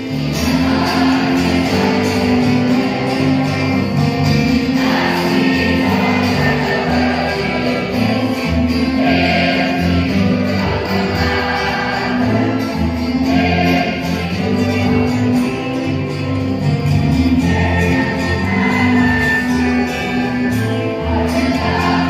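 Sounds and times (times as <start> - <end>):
voices singing in unison: 0.0 - 15.1, 17.3 - 22.0
instrumental accompaniment: 0.0 - 22.0.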